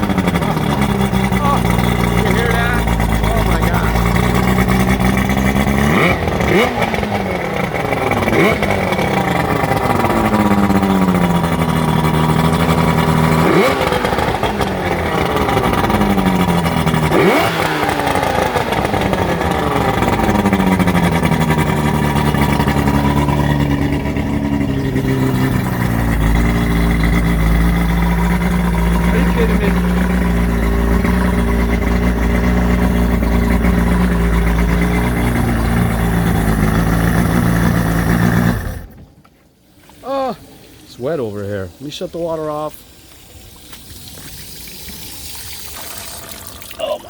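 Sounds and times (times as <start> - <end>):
boat engine revving: 0.0 - 39.2, 44.9 - 47.0.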